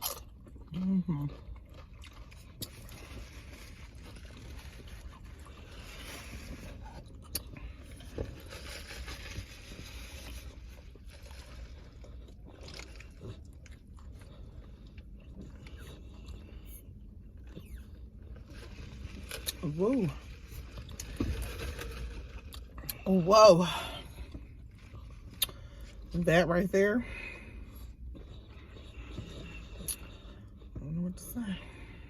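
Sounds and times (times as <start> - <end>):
chewing and eating: 0.0 - 26.2, 27.0 - 32.0
steady low hum: 0.0 - 32.0.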